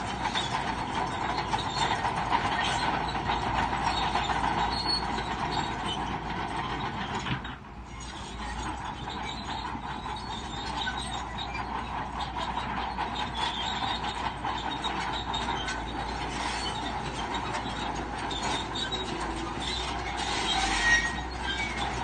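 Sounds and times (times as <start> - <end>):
bulldozer engine running: 0.0 - 22.0
bulldozer tracks squealing and clanking: 0.0 - 22.0.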